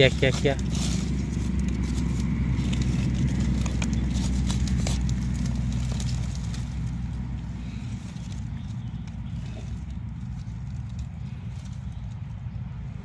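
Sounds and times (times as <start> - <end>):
dry leaves crackling and rustling: 0.0 - 13.0
steady low rumble: 0.0 - 13.0.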